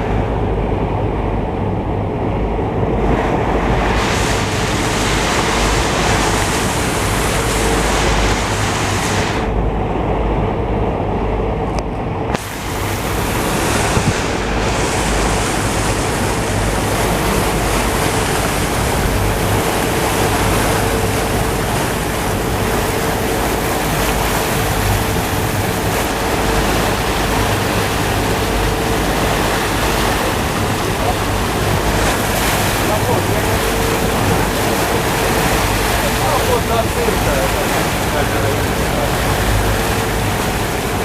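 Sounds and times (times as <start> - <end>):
sea surf washing: 0.0 - 9.9, 11.9 - 41.0
wind buffeting microphone: 0.0 - 41.0.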